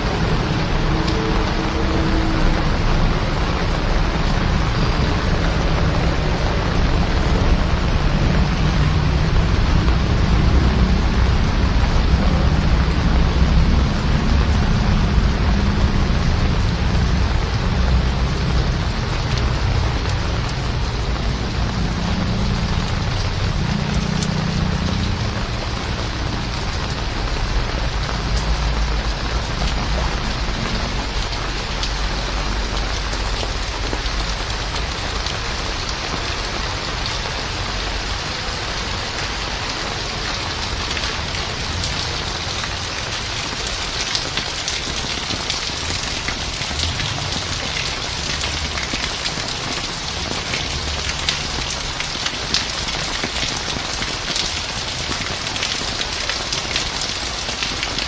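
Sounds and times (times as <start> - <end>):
heavy rain falling: 0.0 - 58.0
low vehicle rumble: 0.0 - 58.0
raindrops ticking on surfaces: 0.0 - 58.0.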